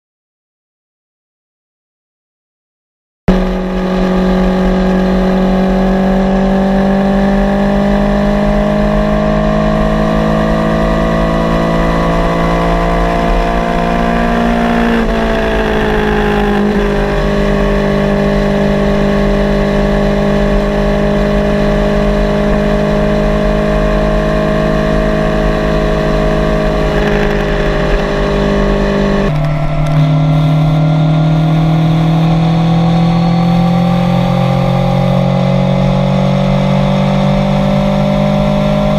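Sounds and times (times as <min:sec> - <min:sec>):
motorcycle engine accelerating: 0:03.3 - 0:38.9.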